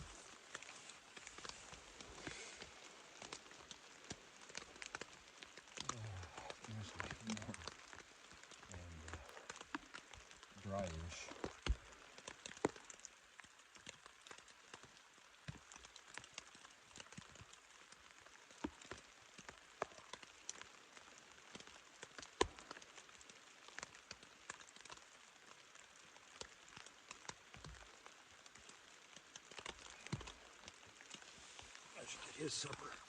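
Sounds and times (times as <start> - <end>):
rain tapping on tent fabric: 0.0 - 33.0.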